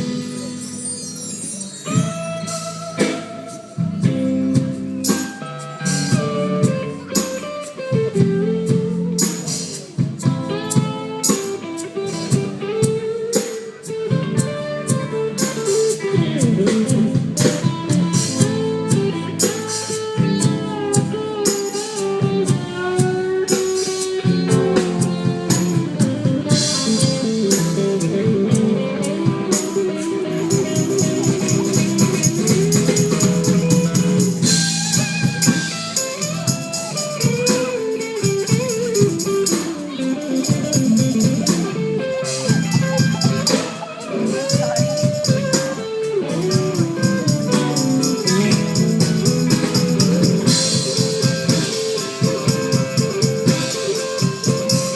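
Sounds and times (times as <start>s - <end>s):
drum kit beat: 0.0s - 54.9s
guitar lines: 0.0s - 54.9s.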